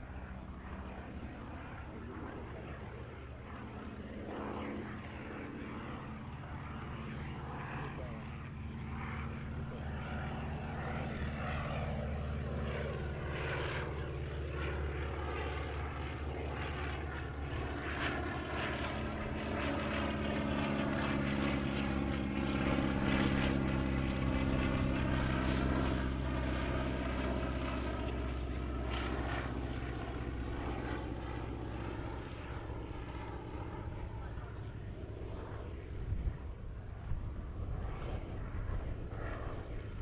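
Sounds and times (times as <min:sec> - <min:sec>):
propeller plane engine flying past: 0:00.0 - 0:40.0.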